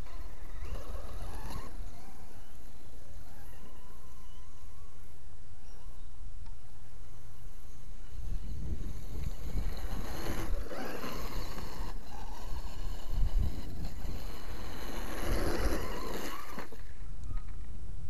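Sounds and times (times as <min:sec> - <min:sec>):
electric motor whining: 0:00.0 - 0:06.0, 0:08.0 - 0:17.5.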